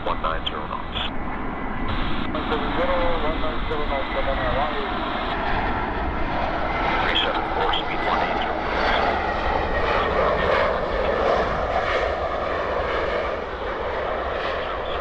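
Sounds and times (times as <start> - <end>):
jet engines passing: 0.0 - 15.0.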